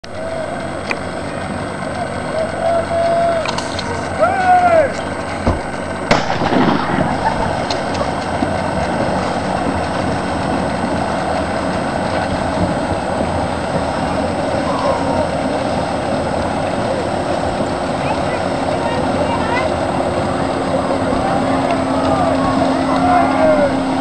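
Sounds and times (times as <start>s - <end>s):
many outboard motors running: 0.0s - 24.0s.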